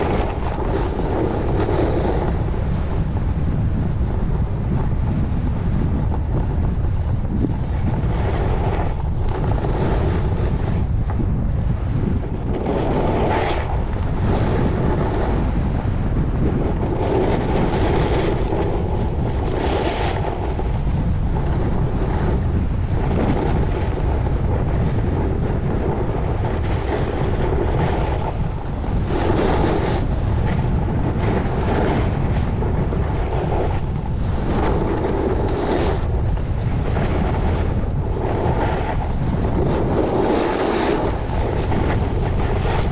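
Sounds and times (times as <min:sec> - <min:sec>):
skis scraping packed snow: 0:00.0 - 0:42.9
wind buffeting microphone: 0:00.0 - 0:42.9.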